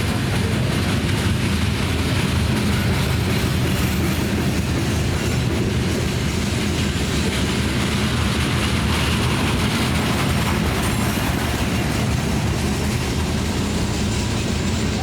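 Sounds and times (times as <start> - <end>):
freight train wheels on rail: 0.0 - 15.0.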